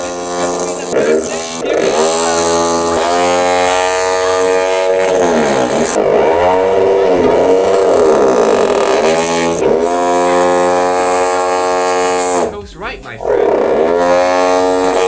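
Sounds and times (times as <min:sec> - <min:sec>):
pitch-shifted hammer drill buzzing: 0:00.0 - 0:15.0.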